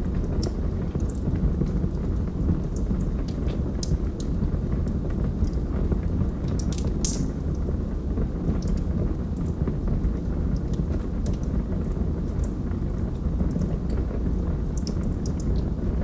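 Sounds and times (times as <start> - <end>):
wood crackling and popping: 0.0 - 15.9
fire roaring: 0.0 - 16.0.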